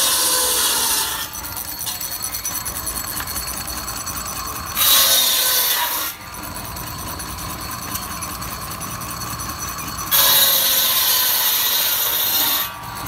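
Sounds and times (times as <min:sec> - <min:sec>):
buzz saw spinning: 0:00.0 - 0:13.0
saw cutting through wood: 0:00.0 - 0:13.0.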